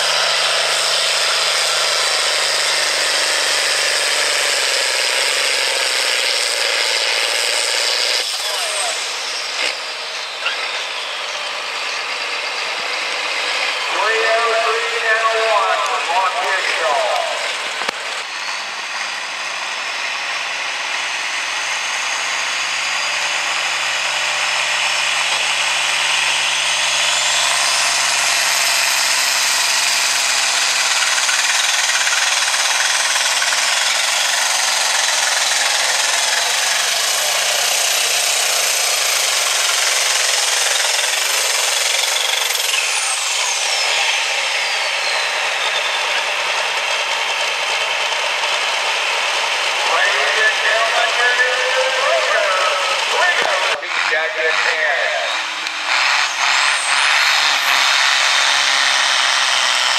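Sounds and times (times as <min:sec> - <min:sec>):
tractor diesel engine at full power: 0:00.0 - 0:59.9.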